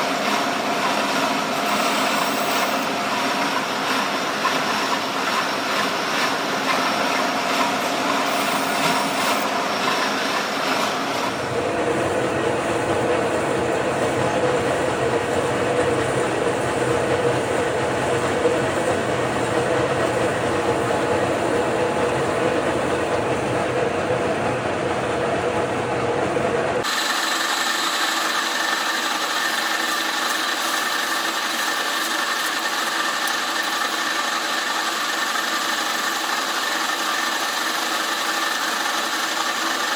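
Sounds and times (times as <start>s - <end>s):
lathe cutting metal: 0.0s - 39.9s.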